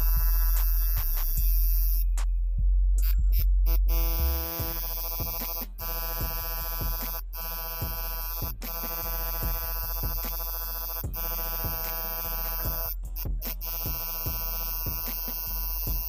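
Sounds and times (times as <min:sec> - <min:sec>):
tattoo machine buzzing: 0:00.0 - 0:02.1, 0:03.0 - 0:16.0
electronic music with drum beat: 0:00.0 - 0:16.0.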